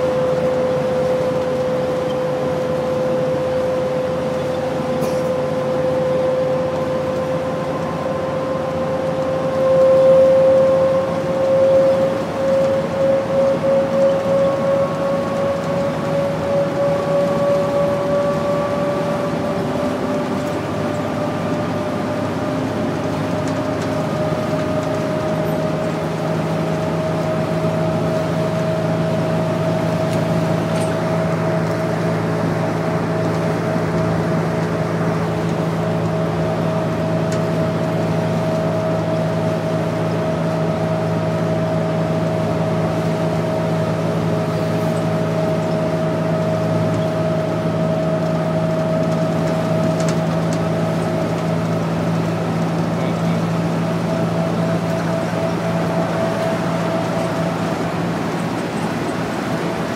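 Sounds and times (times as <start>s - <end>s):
bus engine drone: 0.0s - 59.9s
transmission whine: 0.0s - 59.9s
tyre and road noise: 10.6s - 59.9s.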